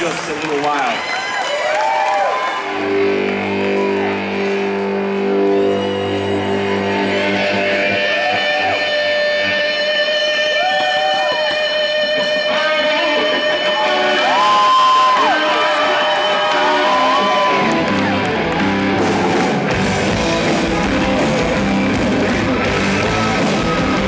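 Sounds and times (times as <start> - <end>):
electric guitar bending notes: 2.6 - 24.0.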